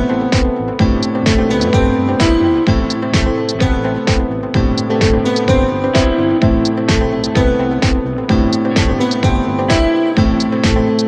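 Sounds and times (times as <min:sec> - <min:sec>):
guitar music with drum beat: 0:00.0 - 0:11.0.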